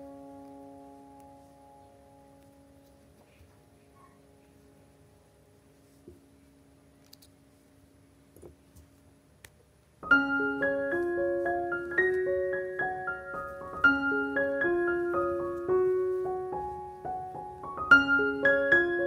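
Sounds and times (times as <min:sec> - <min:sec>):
gentle piano music: 0:00.0 - 0:06.5, 0:10.0 - 0:19.0.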